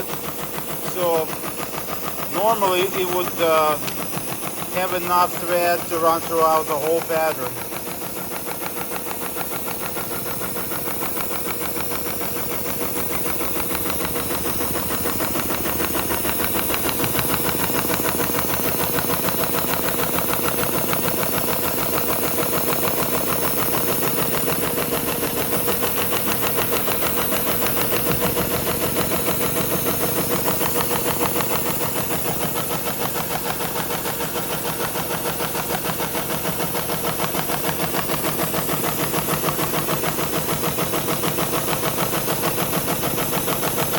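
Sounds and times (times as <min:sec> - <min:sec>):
sewing machine rattling: 0:00.0 - 0:43.9.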